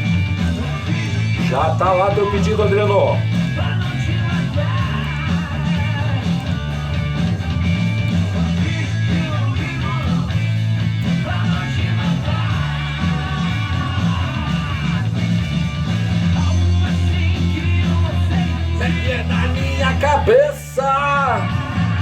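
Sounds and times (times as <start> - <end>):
rock song: 0.0 - 22.0.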